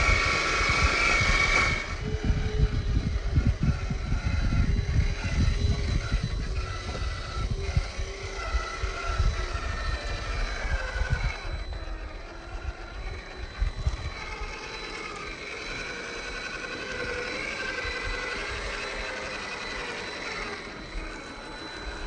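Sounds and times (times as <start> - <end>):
low rumbling: 0.0 - 22.0
rc car motor whining: 0.0 - 22.0.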